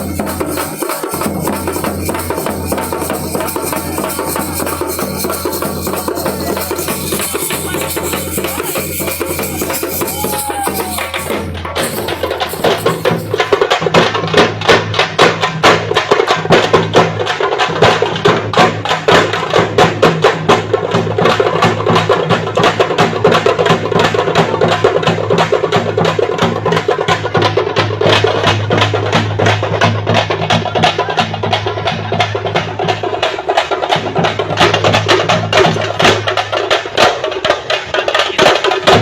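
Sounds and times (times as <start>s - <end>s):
frame drums beaten with sticks: 0.0s - 39.0s.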